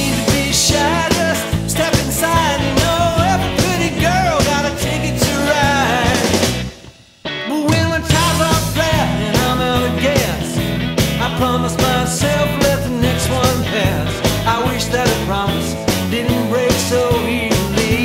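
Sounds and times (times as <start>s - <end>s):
loud rock and roll music: 0.0s - 18.0s.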